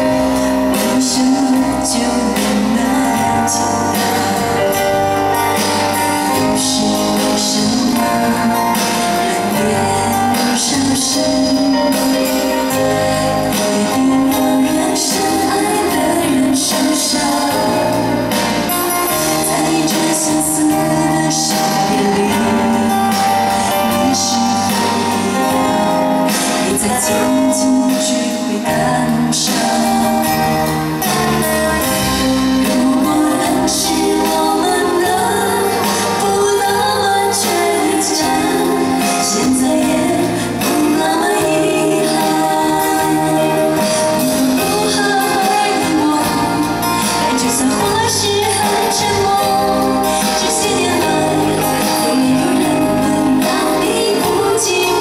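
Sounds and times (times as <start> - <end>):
live band playing: 0.0 - 55.0
woman singing into microphone: 0.0 - 55.0.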